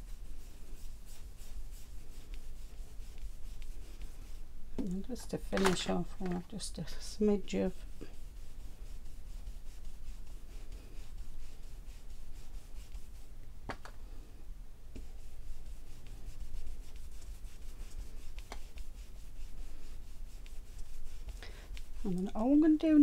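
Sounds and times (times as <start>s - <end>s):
brush rubbing on card: 0.0s - 13.3s, 15.0s - 23.0s.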